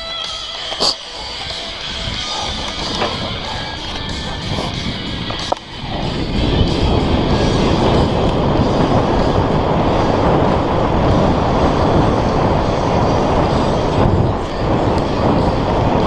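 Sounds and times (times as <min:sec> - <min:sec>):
bike tyres rolling over dirt: 0:00.0 - 0:16.0
wind buffeting microphone: 0:00.0 - 0:16.0.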